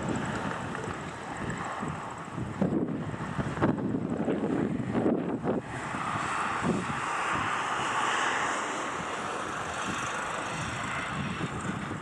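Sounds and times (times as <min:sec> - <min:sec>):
jet engines rushing: 0:00.0 - 0:12.0
wind gusts on microphone: 0:00.0 - 0:12.0.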